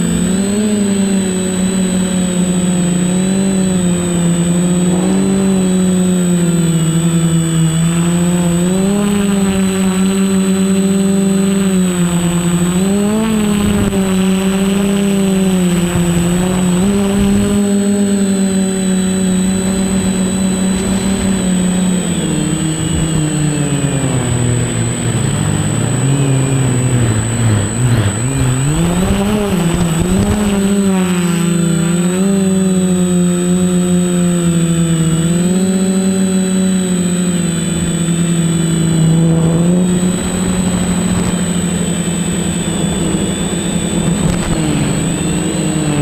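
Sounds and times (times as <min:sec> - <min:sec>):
drone motors whining: 0:00.0 - 0:46.0
thin high-pitched whine: 0:00.0 - 0:46.0.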